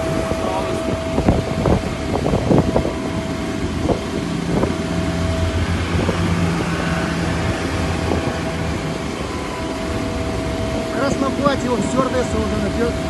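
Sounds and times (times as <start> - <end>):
low engine rumble: 0.0 - 13.0
thin steady whine: 0.0 - 13.0
wind noise hiss: 0.0 - 13.0.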